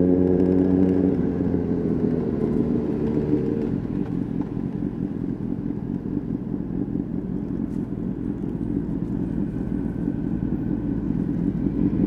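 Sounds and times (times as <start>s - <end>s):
motorcycle engine at steady revs: 0.0s - 12.0s.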